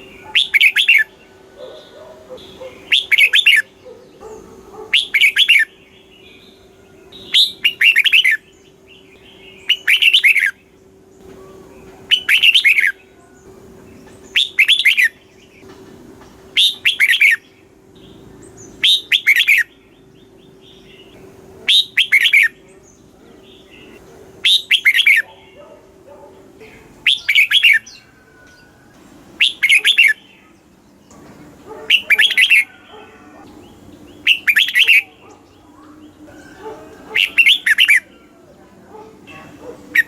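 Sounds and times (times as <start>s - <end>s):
bird singing warbled phrases: 0.0s - 15.7s, 16.4s - 40.0s.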